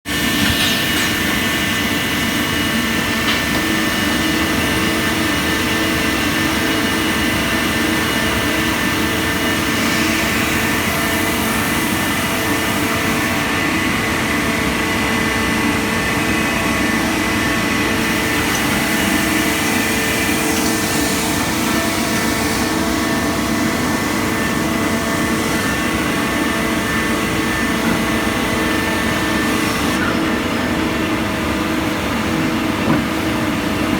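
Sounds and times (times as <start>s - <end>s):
constant high machine tones: 0.1s - 33.9s
lathe machine hum: 0.1s - 33.9s.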